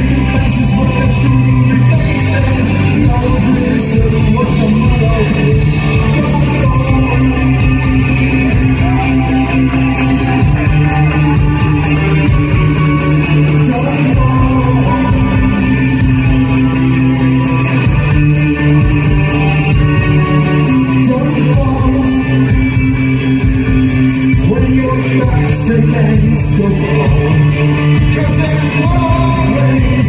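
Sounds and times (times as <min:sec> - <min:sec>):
man singing: 0:00.0 - 0:16.5, 0:20.6 - 0:22.8, 0:24.3 - 0:30.0
rock band playing: 0:00.0 - 0:30.0.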